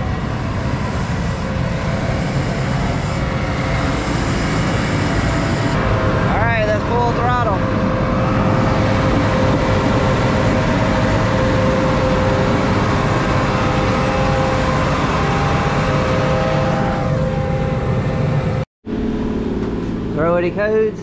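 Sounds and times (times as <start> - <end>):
diesel engine running: 0.0 - 21.0
steady machine whine: 0.0 - 21.0.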